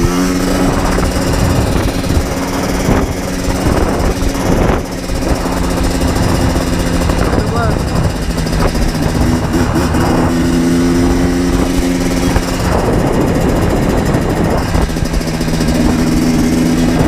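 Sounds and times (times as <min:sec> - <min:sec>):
two-stroke engine running: 0:00.0 - 0:17.0.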